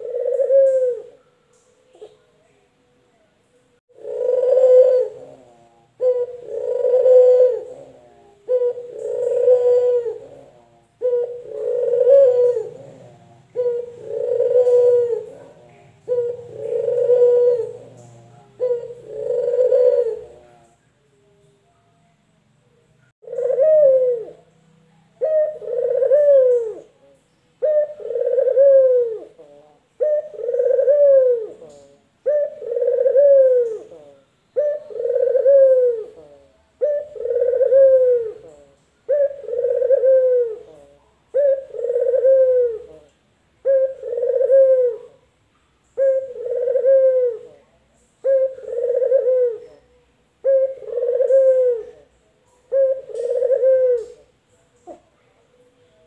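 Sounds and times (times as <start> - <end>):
collared dove cooing: 0.0 - 2.2, 3.9 - 21.4, 23.2 - 24.5, 25.1 - 45.2, 45.9 - 55.1.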